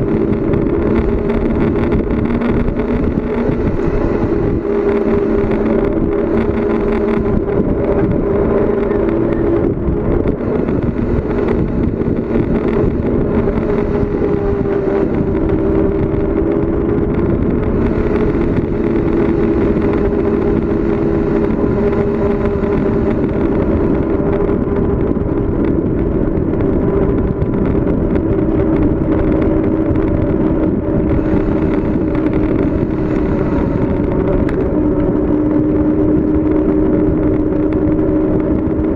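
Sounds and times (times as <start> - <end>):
droning hum: 0.0 - 38.9
road and wind noise: 0.0 - 38.9.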